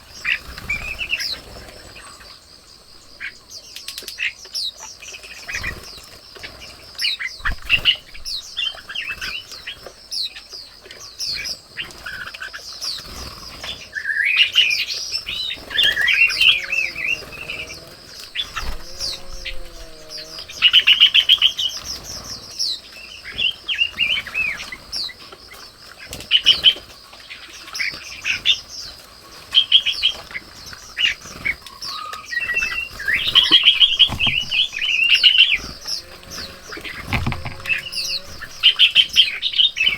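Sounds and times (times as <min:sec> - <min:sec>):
high insect drone: 0:00.0 - 0:39.9
songbirds chirping: 0:00.0 - 0:39.9.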